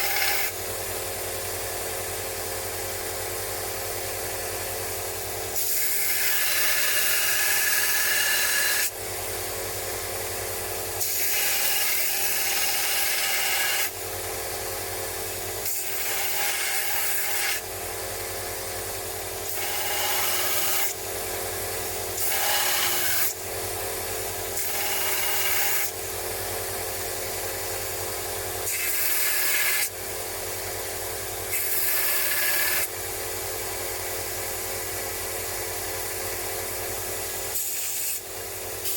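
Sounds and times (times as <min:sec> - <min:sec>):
small power tool running: 0:00.0 - 0:38.9.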